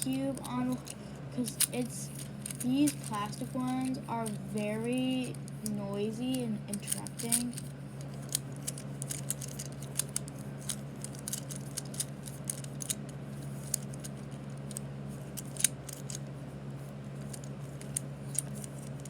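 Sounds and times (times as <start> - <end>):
fidget cube clicking: 0.0 - 16.3, 17.2 - 19.0
steady low hum: 0.0 - 19.0.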